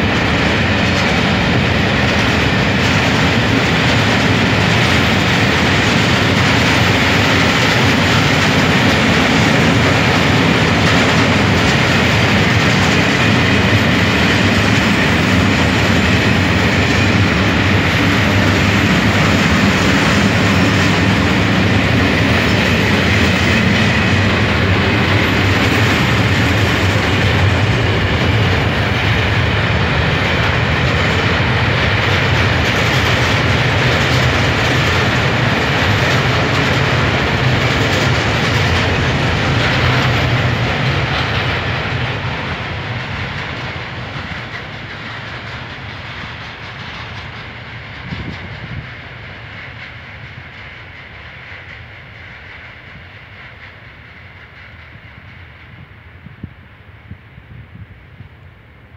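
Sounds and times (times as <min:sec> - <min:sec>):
freight train wagons rolling: 0:00.0 - 0:55.8.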